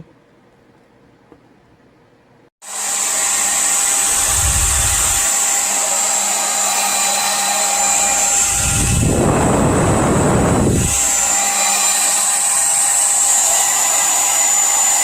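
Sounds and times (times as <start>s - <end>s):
hair dryer running: 2.6s - 15.0s.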